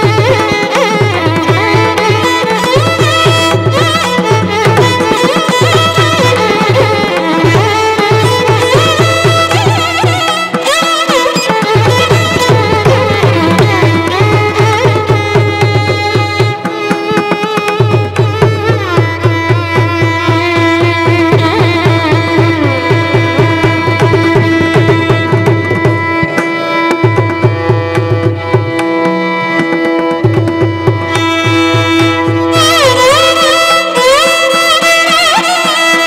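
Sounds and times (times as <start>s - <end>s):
violins playing ornamented melody: 0.0s - 36.0s.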